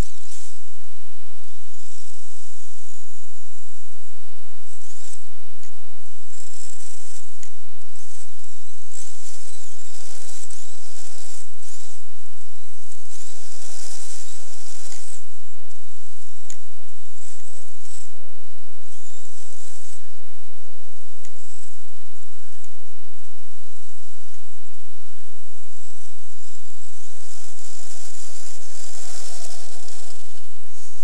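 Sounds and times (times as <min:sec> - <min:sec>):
electric motor whining: 0:00.0 - 0:22.8, 0:25.6 - 0:31.0.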